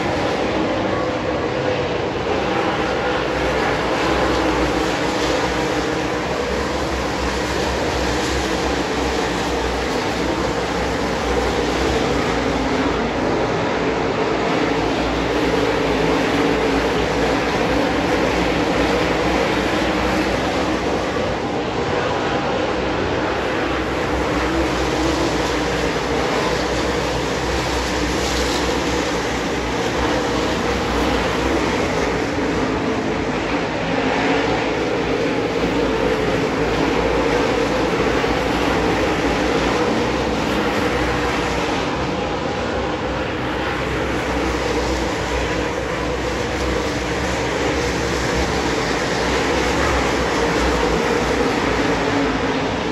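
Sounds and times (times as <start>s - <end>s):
race car engines droning: 0.0s - 52.9s.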